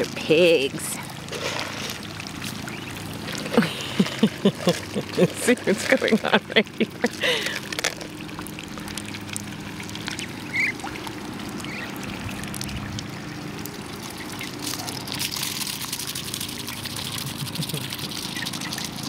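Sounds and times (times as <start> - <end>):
ducks pecking seeds: 0.0 - 19.0.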